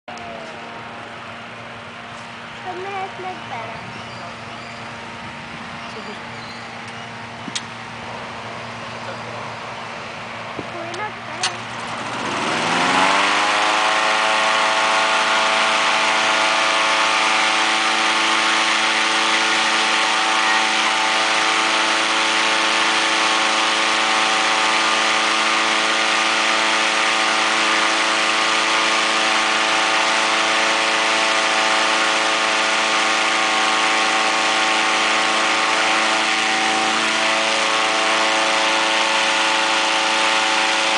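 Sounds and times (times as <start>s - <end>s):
engine-driven inflator fan running: 0.1s - 40.9s.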